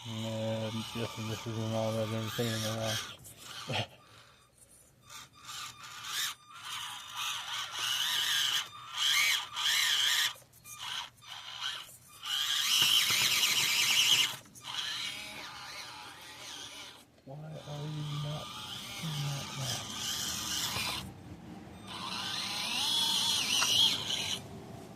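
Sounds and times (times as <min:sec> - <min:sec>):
small electric motor whining: 0:00.0 - 0:24.9.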